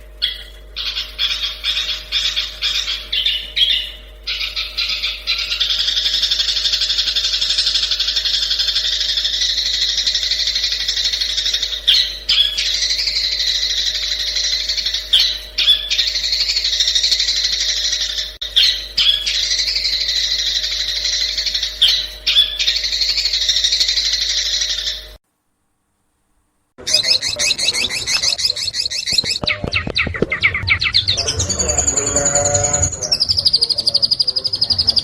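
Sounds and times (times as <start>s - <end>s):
sharp bird chips: 0.0s - 25.2s, 26.8s - 35.0s
shrike chattering song: 0.0s - 25.2s, 26.8s - 35.0s.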